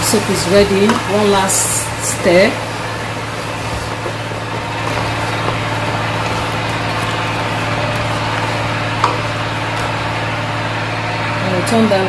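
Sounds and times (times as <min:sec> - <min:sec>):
low mechanical hum with hiss: 0:00.0 - 0:12.0.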